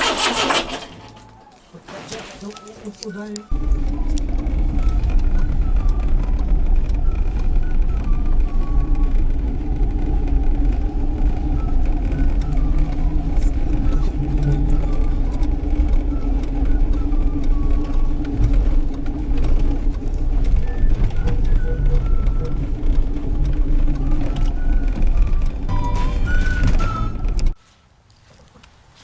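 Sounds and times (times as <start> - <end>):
car engine and road noise: 3.5 - 27.6.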